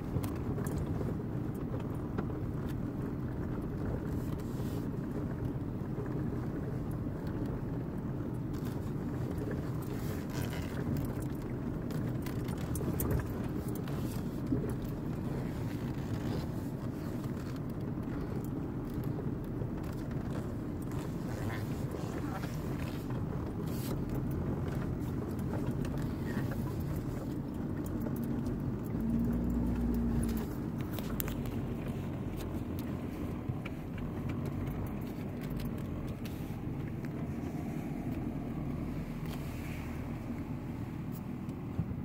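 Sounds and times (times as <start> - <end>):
engine and tyres rumbling: 0.0 - 42.0
light clicks and rattles: 5.1 - 42.0.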